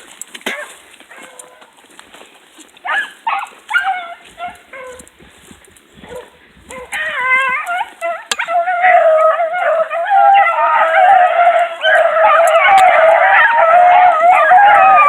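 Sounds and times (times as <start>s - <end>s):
hounds baying: 0.0s - 2.2s, 2.8s - 15.0s.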